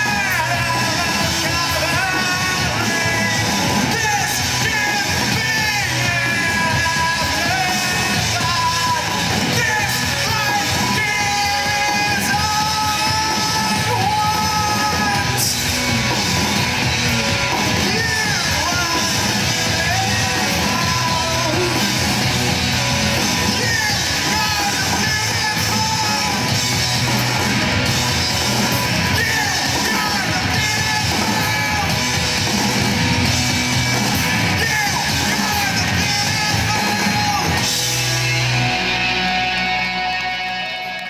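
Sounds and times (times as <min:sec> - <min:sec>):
bass guitar: 0:00.0 - 0:41.0
drum kit: 0:00.0 - 0:41.0
electric guitars: 0:00.0 - 0:41.0.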